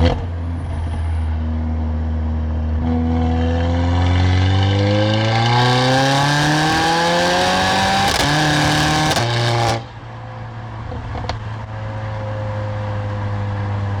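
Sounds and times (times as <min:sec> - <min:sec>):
car engine and exhaust accelerating: 0:00.0 - 0:14.0.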